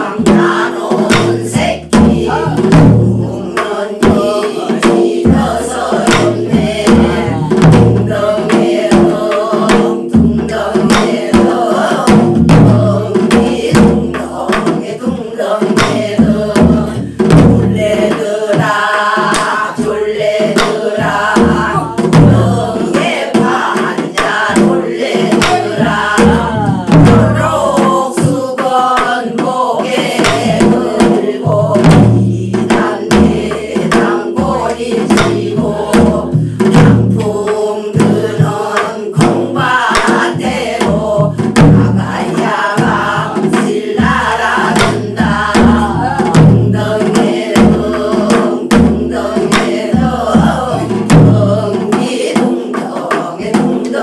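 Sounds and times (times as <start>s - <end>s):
barrel drums beaten with sticks: 0.0s - 54.0s
group singing folk song: 0.0s - 54.0s.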